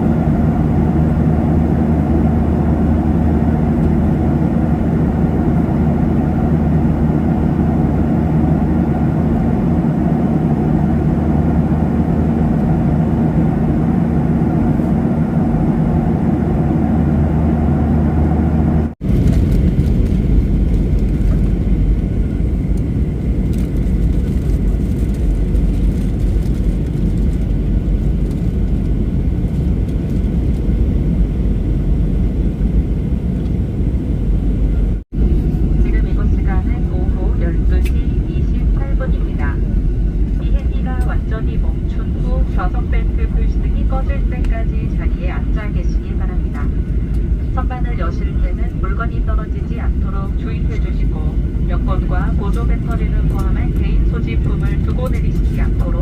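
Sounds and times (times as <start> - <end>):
airliner engine drone: 0.0 - 56.0
deep rough rumble: 0.0 - 56.0.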